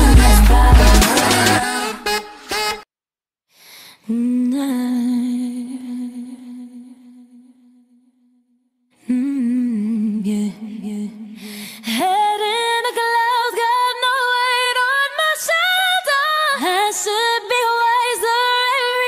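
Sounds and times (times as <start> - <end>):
woman singing: 0.0 - 2.0, 4.0 - 7.8, 9.0 - 19.0.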